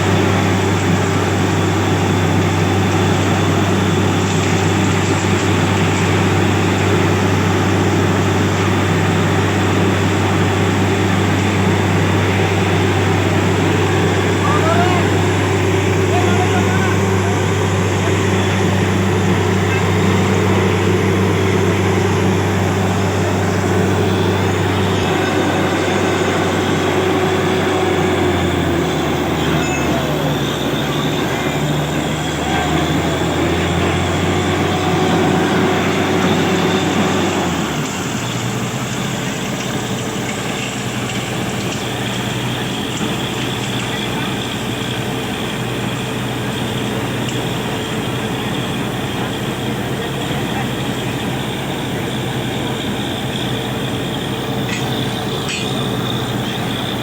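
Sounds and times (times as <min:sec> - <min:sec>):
drilling machine motor humming: 0:00.0 - 0:57.0.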